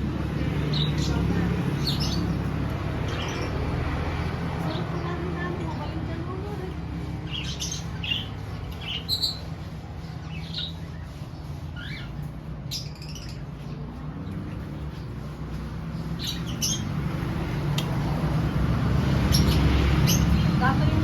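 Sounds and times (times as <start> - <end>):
birds squawking and calling: 0.0 - 21.0.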